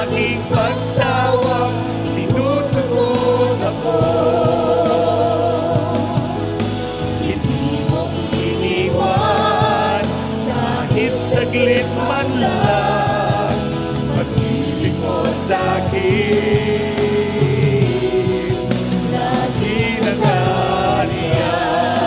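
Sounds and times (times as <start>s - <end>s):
worship song singing: 0.0s - 22.0s.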